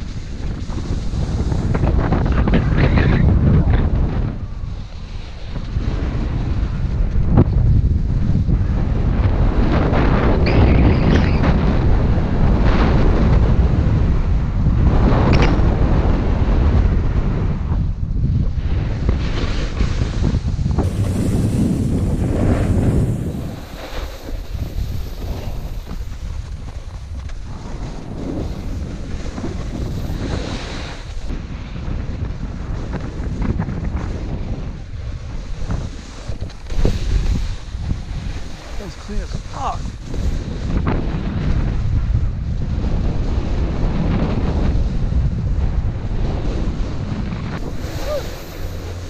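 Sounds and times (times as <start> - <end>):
snowboard scraping over snow: 0.0 - 49.0
wind rushing over microphone: 0.0 - 49.0.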